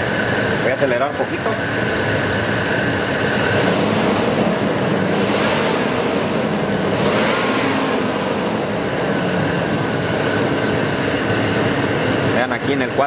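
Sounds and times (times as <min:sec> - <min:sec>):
engine idling with misfire: 0:00.0 - 0:13.0.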